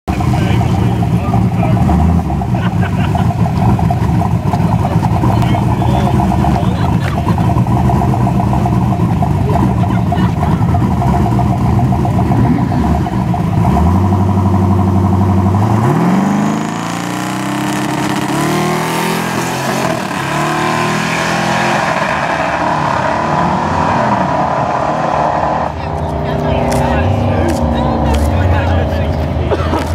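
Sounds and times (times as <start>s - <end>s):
drag car engine revving: 0.1s - 29.9s.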